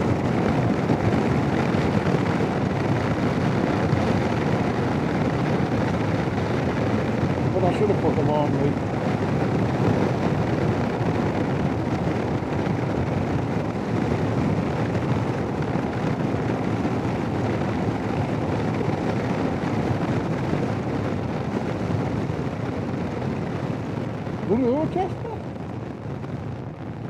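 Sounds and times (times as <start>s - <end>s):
road noise: 0.0s - 27.0s
wind rushing over microphone: 0.0s - 27.0s.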